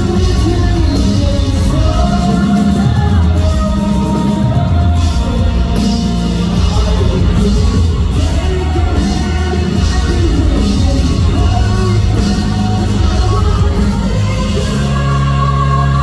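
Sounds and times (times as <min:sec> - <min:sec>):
live pop-rock band: 0:00.0 - 0:16.0
person singing: 0:00.0 - 0:16.0.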